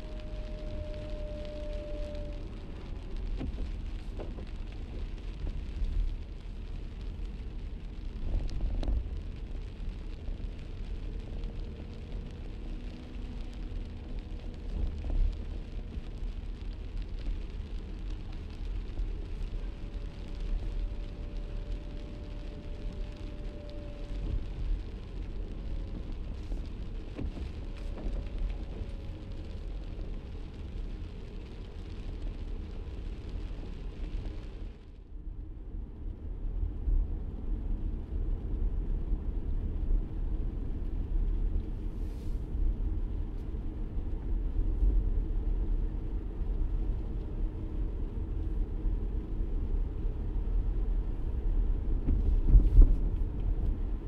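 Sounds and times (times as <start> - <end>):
car engine and tyres rumbling: 0.0 - 54.0
rain hissing on wet road: 0.0 - 54.0.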